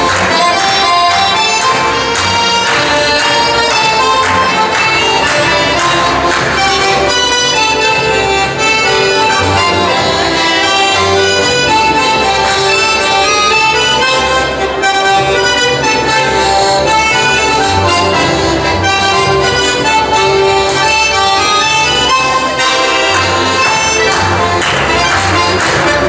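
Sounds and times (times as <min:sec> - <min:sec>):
double bass line: 0:00.0 - 0:26.0
folk dance band playing: 0:00.0 - 0:26.0.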